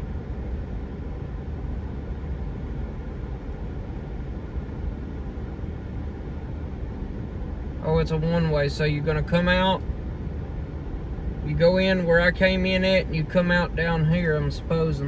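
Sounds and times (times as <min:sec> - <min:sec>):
truck engine and tyre noise: 0:00.0 - 0:15.0.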